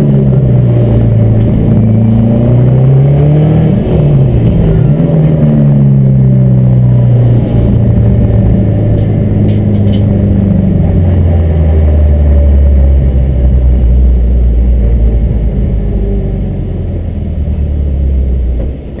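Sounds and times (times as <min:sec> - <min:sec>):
car engine running low: 0:00.0 - 0:19.0.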